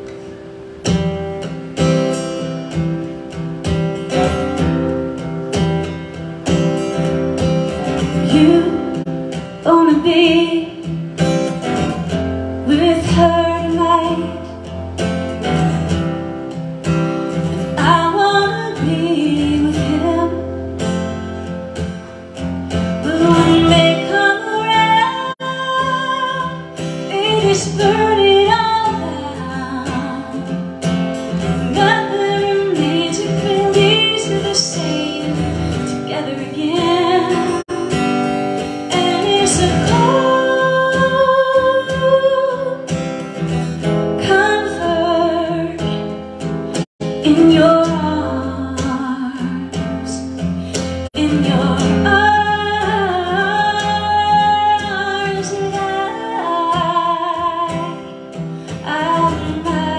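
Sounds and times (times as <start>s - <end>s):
acoustic guitar strumming: 0.0s - 59.9s
woman singing: 2.4s - 16.0s, 17.3s - 21.6s, 22.7s - 59.9s.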